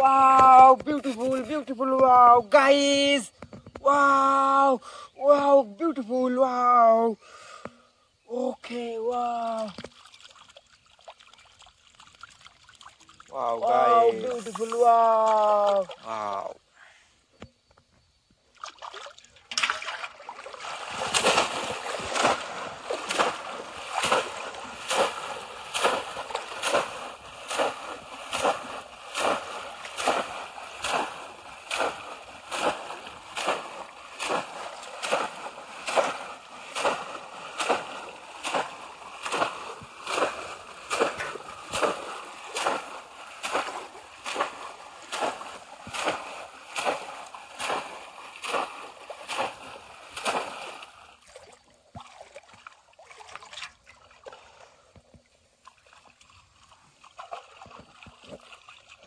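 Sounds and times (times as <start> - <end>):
fish traps splashing in water: 8.7 - 16.5, 18.5 - 59.0.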